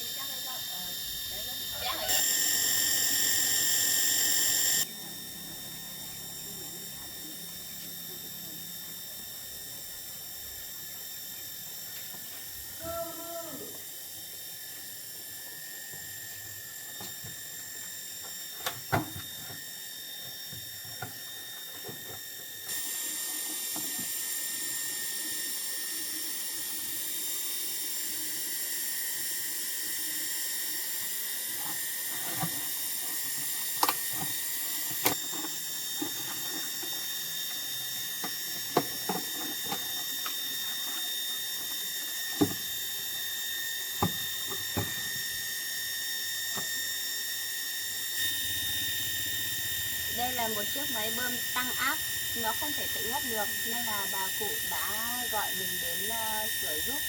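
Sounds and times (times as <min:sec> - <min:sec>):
water pump whining: 0:00.0 - 0:57.0.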